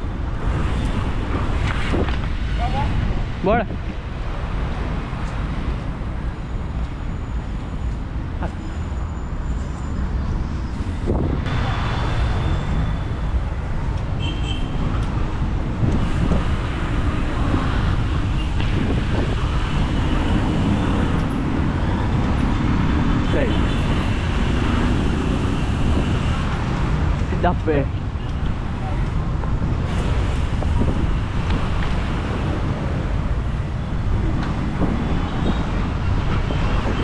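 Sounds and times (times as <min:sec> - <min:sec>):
wind rumbling on microphone: 0:00.0 - 0:08.6, 0:09.4 - 0:37.0
road traffic passing: 0:00.0 - 0:37.0.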